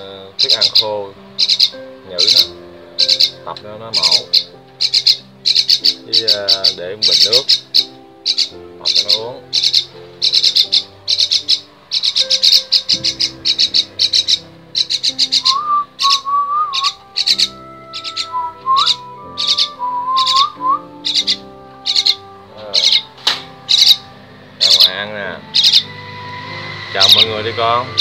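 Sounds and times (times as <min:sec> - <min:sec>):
myna giving harsh rasping calls: 0:00.4 - 0:26.0.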